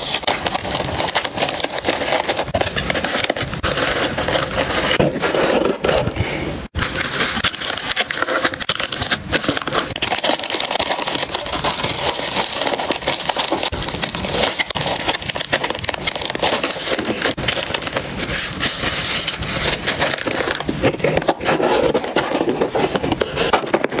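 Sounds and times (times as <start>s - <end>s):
bubble wrap and paper crinkling: 0.0s - 24.0s.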